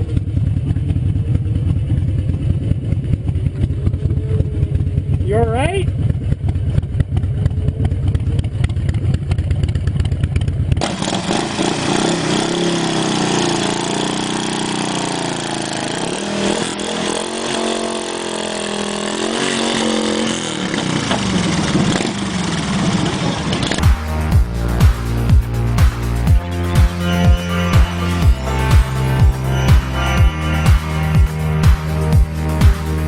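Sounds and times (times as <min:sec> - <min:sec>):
motorcycle engine revving: 0:00.0 - 0:33.0
motorcycle engine rumbling: 0:00.0 - 0:33.0.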